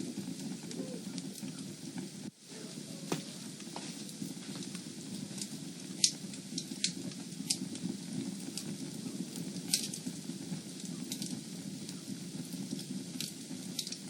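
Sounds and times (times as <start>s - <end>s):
fire popping: 0.0s - 14.0s
fire rumbling in fireplace: 0.0s - 14.0s.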